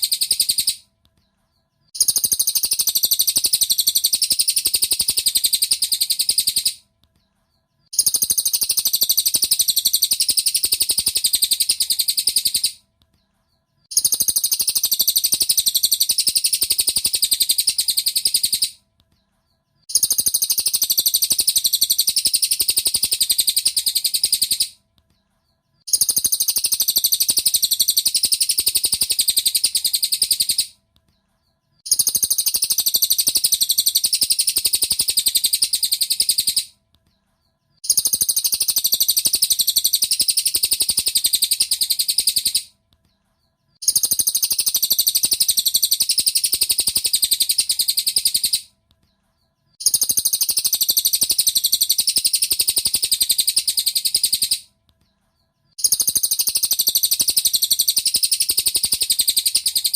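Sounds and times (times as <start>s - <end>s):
bird rapid high chirping: 0.0s - 59.9s.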